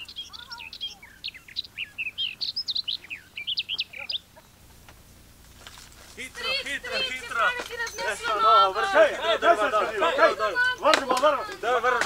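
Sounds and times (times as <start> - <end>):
songbird chirping and whistling: 0.0 - 4.9, 6.0 - 12.0.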